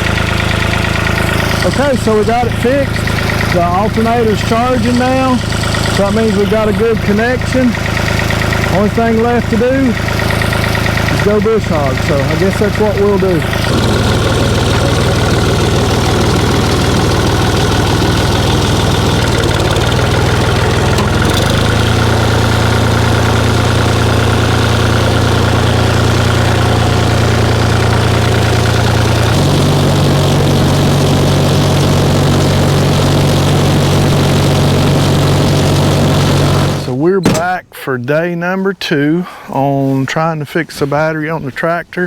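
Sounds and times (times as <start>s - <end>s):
tractor diesel engine running: 0.0s - 38.3s.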